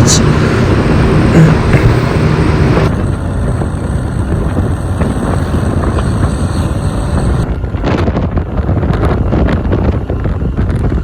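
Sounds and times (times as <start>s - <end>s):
scooter road and engine noise: 0.0s - 11.0s
wind buffeting microphone: 0.0s - 11.0s.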